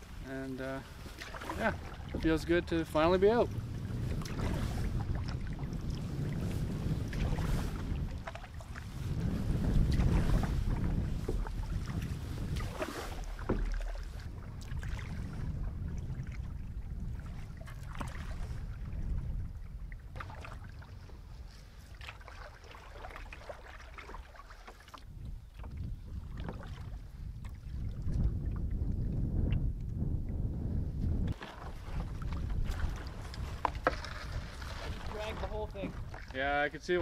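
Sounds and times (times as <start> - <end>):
paddle splashing in water: 0.0 - 29.6, 31.3 - 37.0
wind rumble on microphone: 0.0 - 37.0.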